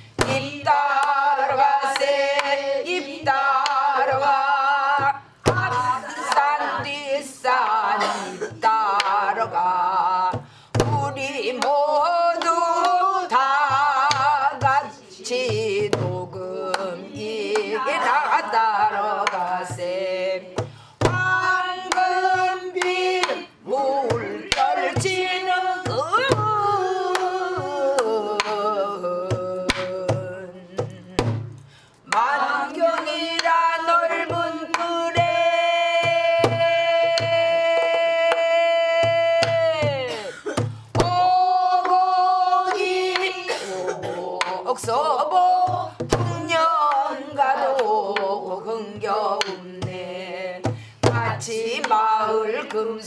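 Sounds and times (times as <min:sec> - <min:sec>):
woman singing folk song: 0:00.0 - 0:53.0.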